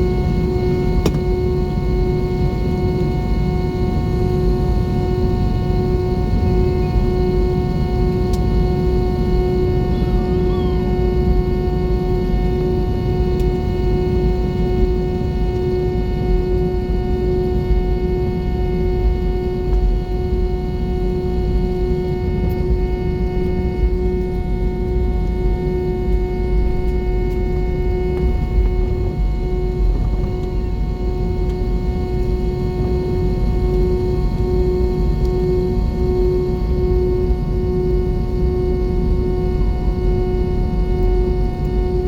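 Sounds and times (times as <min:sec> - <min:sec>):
airplane cabin engine rumble: 0:00.0 - 0:42.0
steady engine whine: 0:00.0 - 0:42.0.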